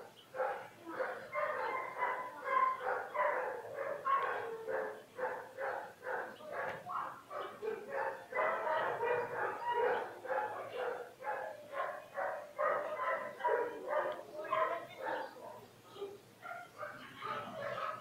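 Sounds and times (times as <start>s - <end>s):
small dog barking: 0.4s - 18.0s.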